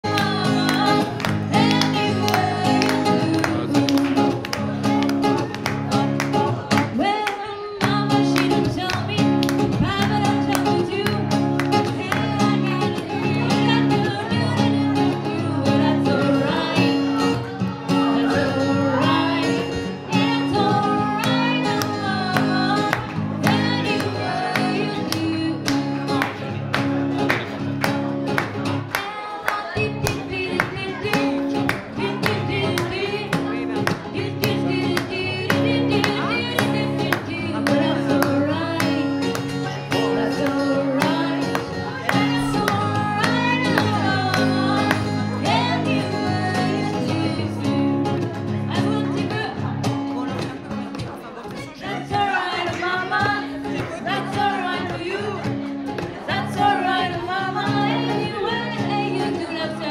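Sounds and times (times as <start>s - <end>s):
woman singing into a microphone: 0.0s - 26.4s, 28.9s - 50.4s, 51.5s - 59.9s
acoustic guitar strumming: 0.0s - 59.9s.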